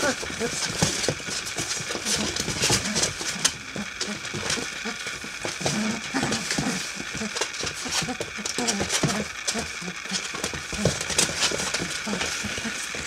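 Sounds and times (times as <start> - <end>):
puppy claws clicking on floor: 0.0 - 13.0
puppy grunts: 0.0 - 13.0.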